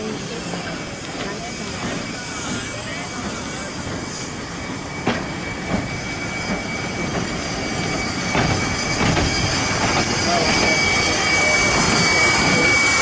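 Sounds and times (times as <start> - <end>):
train wheels squealing on rail: 0.0 - 13.0.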